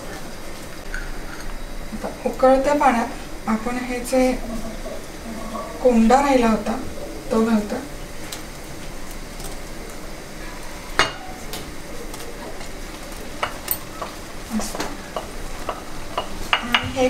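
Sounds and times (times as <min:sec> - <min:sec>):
water boiling in a pan: 0:00.0 - 0:17.0.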